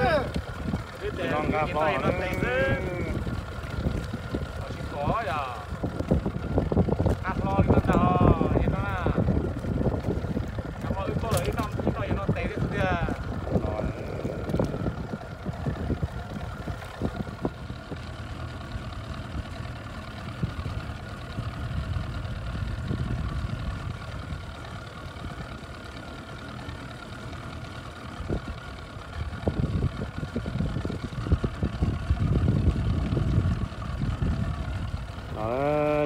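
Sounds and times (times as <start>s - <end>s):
wind gusting on microphone: 0.0s - 18.3s, 20.2s - 24.6s, 28.2s - 36.0s
outboard motor running: 0.0s - 36.0s.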